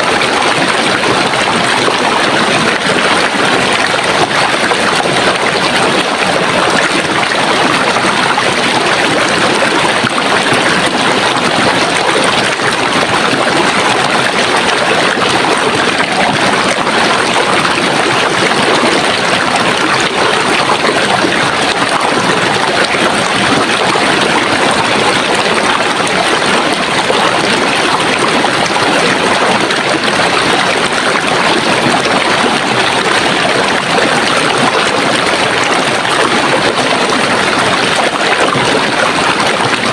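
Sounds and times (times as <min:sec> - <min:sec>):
stream water running: 0:00.1 - 0:39.9.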